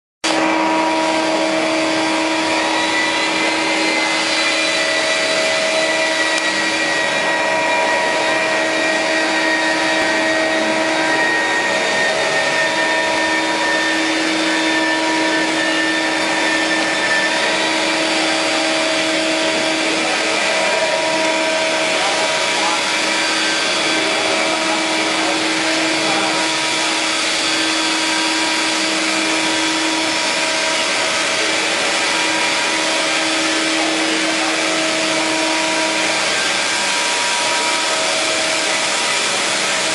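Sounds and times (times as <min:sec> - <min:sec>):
router spindle motor whine: 0:00.2 - 0:39.9.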